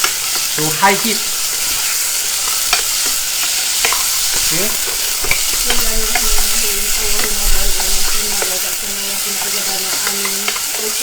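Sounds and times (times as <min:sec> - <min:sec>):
meat sizzling in oil: 0:00.0 - 0:11.0
spatula scraping a pan: 0:00.0 - 0:11.0.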